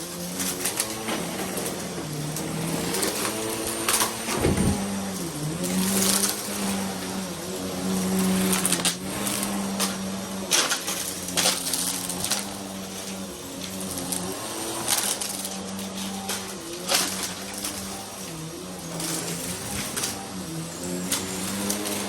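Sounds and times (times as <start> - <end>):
vacuum cleaner motor humming: 0.0 - 22.0.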